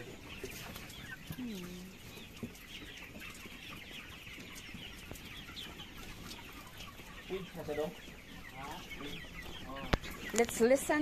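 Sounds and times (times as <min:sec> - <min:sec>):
chickens peeping and chirping: 0:00.0 - 0:11.0.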